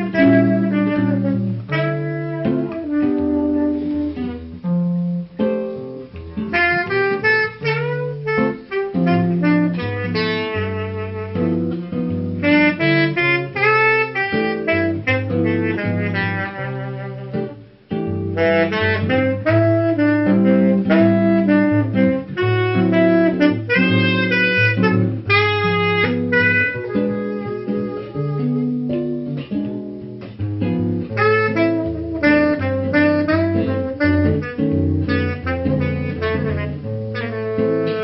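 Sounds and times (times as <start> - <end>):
acoustic guitar: 0.0 - 38.0
saxophone melody: 0.0 - 38.0.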